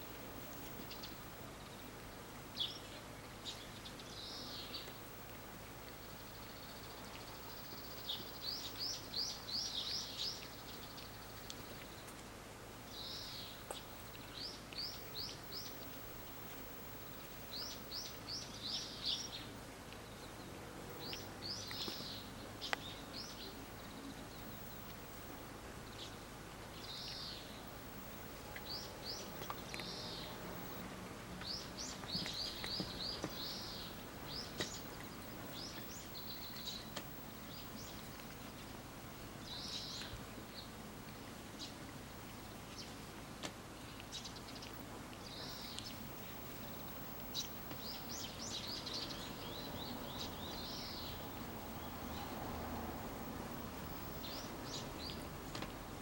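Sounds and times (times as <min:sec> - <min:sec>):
small birds chirping: 0:00.0 - 0:30.8, 0:31.4 - 0:43.0, 0:43.8 - 0:56.0
steady background hiss: 0:00.0 - 0:56.0.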